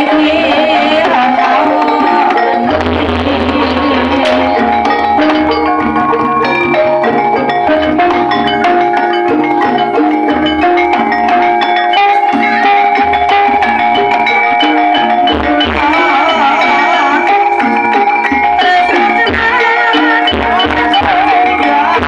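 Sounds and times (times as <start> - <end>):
gamelan music over sound system: 0.0 - 22.0
metallophones ringing melody: 0.0 - 22.0
deep drum beats: 0.1 - 22.0.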